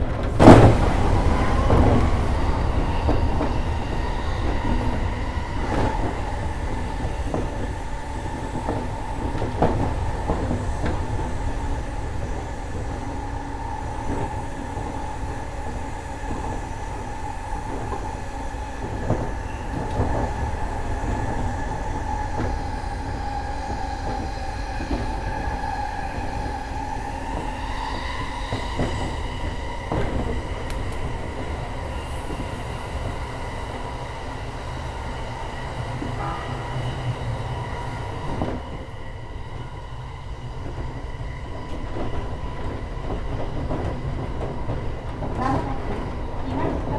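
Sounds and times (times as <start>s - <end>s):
electric train rumble and whine: 0.0s - 46.9s.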